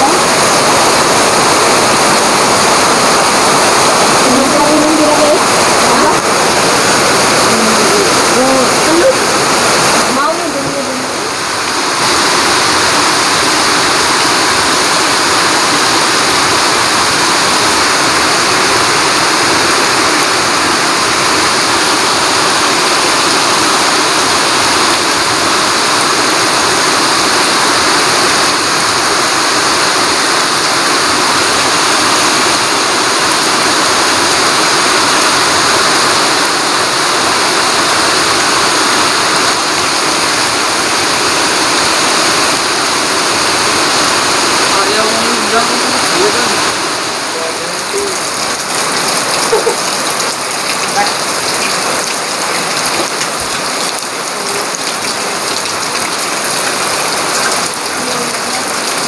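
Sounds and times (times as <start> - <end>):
heavy rain on foliage and pavement: 0.0 - 59.0.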